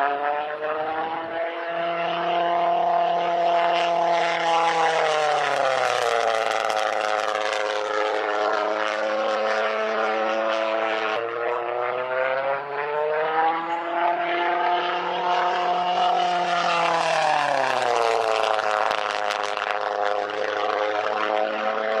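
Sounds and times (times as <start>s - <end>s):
pulsejet engine droning: 0.0s - 22.0s.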